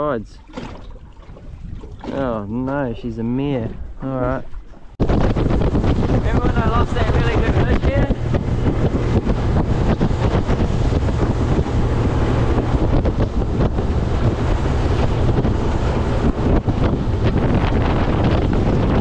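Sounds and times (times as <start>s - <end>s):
outboard motor droning: 0.0s - 19.0s
water rushing along hull: 0.0s - 19.0s
wind buffeting microphone: 0.0s - 19.0s.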